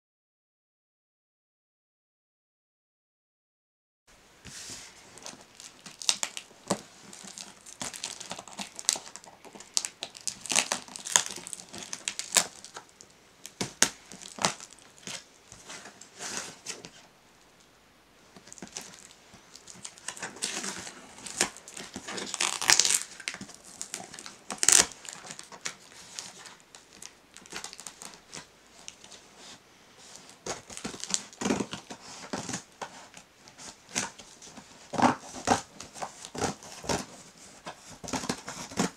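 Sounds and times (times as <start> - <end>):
packing tape tearing and crackling: 5.2 - 17.0, 18.4 - 29.2, 30.1 - 38.9.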